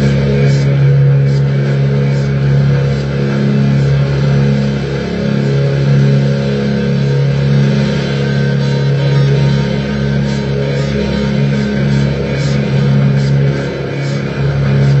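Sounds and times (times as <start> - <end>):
drone music: 0.0 - 15.0.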